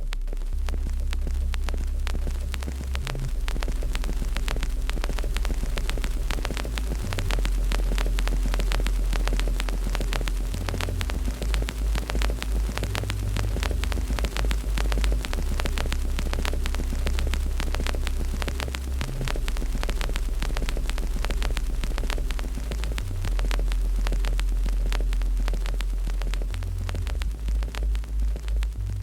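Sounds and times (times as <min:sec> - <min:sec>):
deep hum: 0:00.0 - 0:29.0
wood fire crackling: 0:00.0 - 0:29.0.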